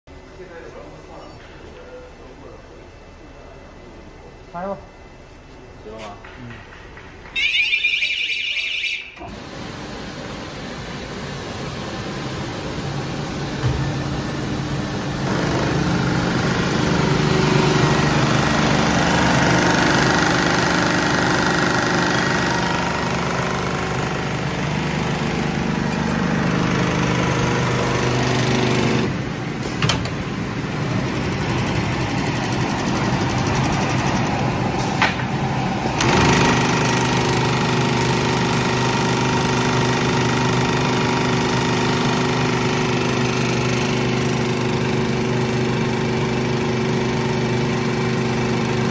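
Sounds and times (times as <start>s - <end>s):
binding machine humming: 5.6s - 48.9s.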